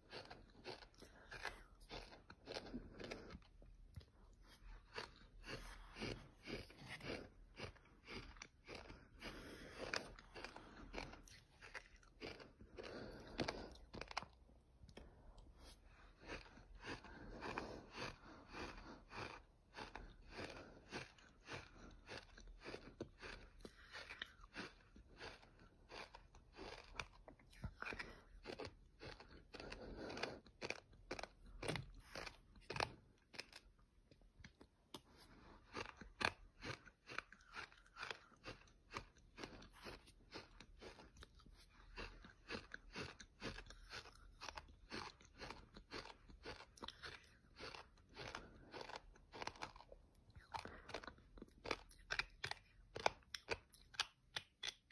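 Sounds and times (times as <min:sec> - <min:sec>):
sand crunching while chewed: 0:00.0 - 0:54.9.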